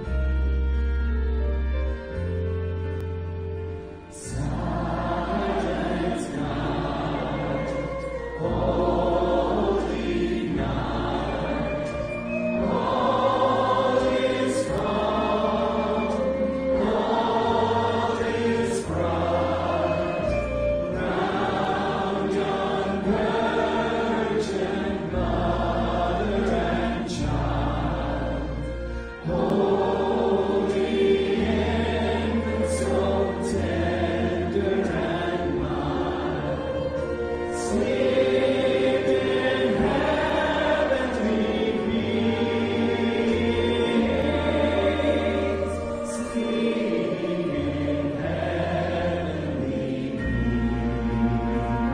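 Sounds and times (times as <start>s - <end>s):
instrumental accompaniment: 0.0s - 51.9s
sustained low bass notes: 0.0s - 51.9s
congregation and choir singing: 1.8s - 51.9s.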